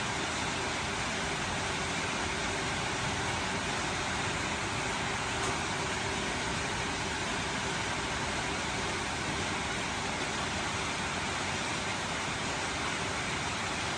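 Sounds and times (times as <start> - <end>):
steady rainfall: 0.0 - 13.9.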